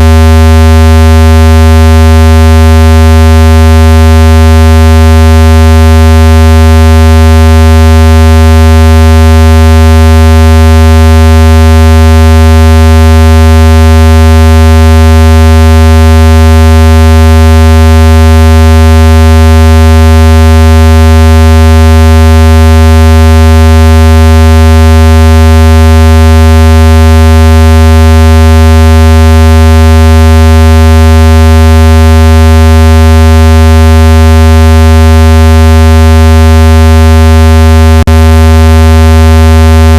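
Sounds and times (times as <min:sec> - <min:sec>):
loud low buzzing tone: 0:00.0 - 0:39.9.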